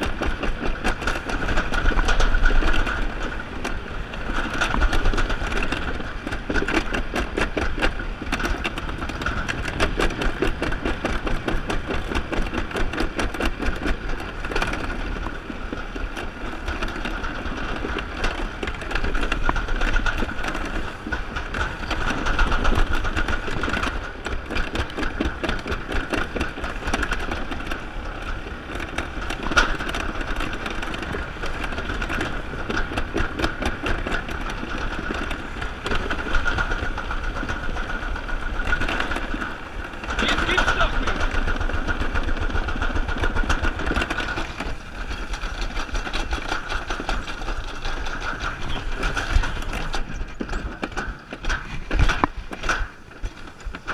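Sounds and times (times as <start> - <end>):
sled rumbling in metal track: 0.0 - 53.9.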